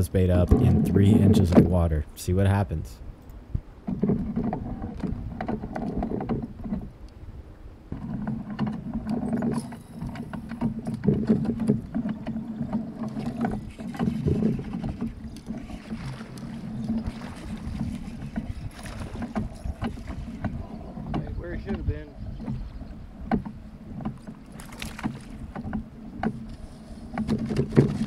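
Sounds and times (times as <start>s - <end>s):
water slapping a kayak hull: 3.4s - 28.0s
small irregular knocks: 3.8s - 6.9s, 7.9s - 28.0s.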